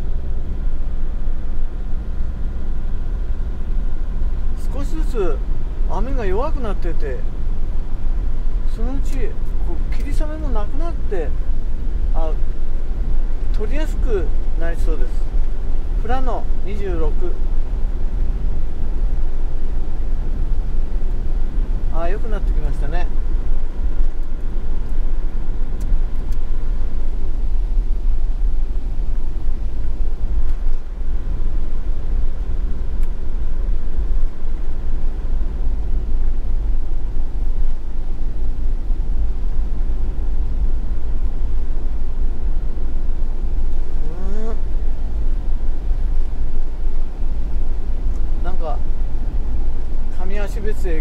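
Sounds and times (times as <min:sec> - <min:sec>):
road noise inside vehicle: 0:00.0 - 0:51.0.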